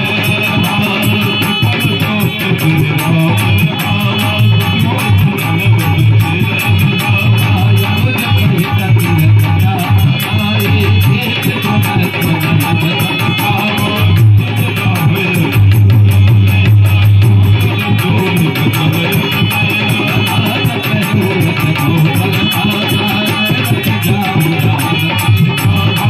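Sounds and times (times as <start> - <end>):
fast hand drumming: 0.0 - 26.0.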